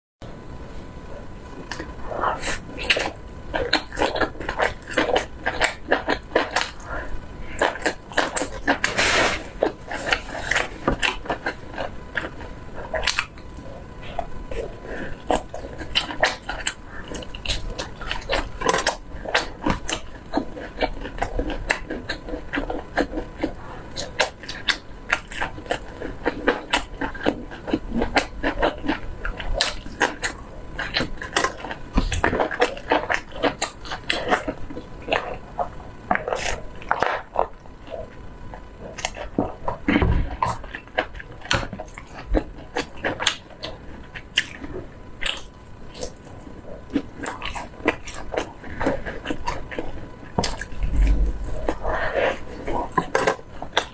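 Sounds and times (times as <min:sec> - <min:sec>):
chewing meat: 0:00.9 - 0:53.9.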